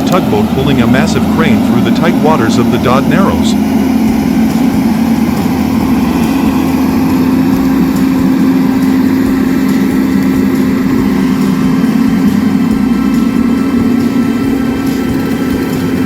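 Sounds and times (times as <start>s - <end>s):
tugboat engine droning: 0.0s - 16.0s.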